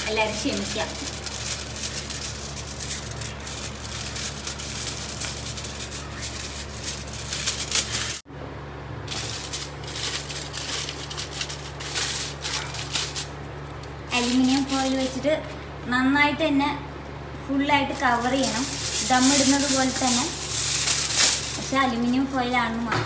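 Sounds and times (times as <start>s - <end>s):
aluminium foil crinkling: 0.0s - 8.2s, 9.1s - 15.5s, 17.9s - 22.9s
steady low hum: 0.0s - 23.0s.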